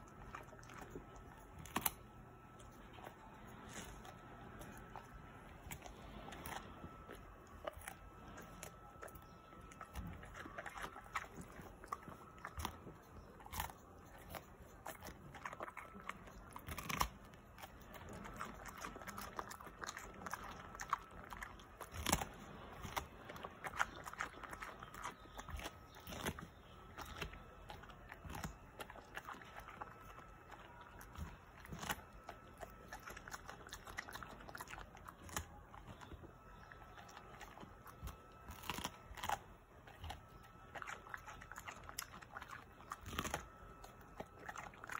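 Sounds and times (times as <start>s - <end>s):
dog chewing crunchy cucumber: 0.0s - 44.9s.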